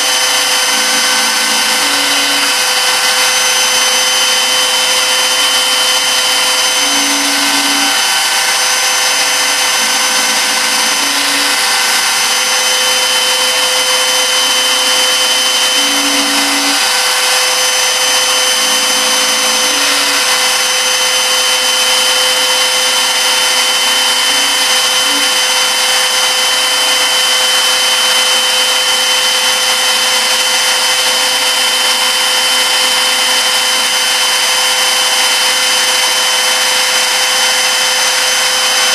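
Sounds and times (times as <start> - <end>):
milling spindle high whine: 0.0 - 38.9.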